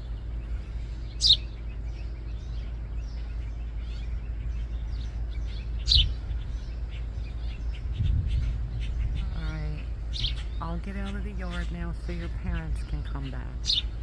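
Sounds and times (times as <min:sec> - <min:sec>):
low background rumble: 0:00.0 - 0:14.0
sparrows chirping: 0:00.0 - 0:14.0.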